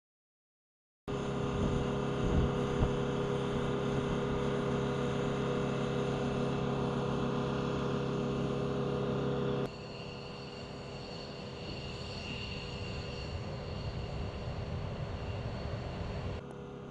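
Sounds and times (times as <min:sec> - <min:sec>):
jet engines whining: 0:01.1 - 0:16.9.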